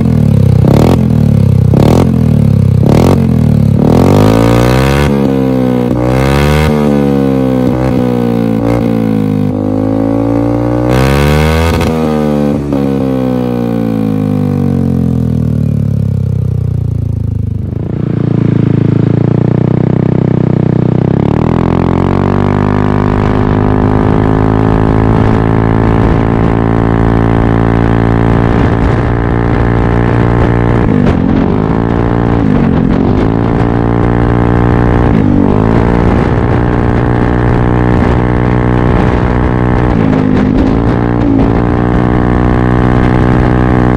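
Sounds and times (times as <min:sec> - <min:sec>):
scooter engine revving: 0:00.0 - 0:43.9.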